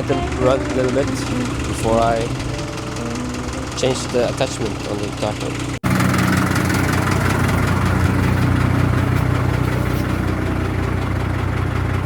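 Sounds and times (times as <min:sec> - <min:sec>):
tractor and excavator engines idling: 0:00.0 - 0:12.0.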